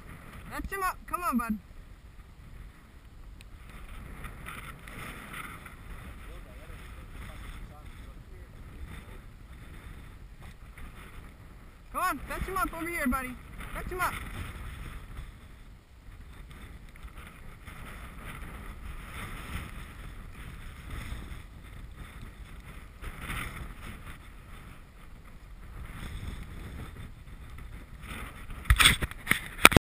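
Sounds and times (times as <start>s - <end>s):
gusty wind buffeting microphone: 0.0s - 29.8s
dry grass rustling: 1.6s - 29.6s.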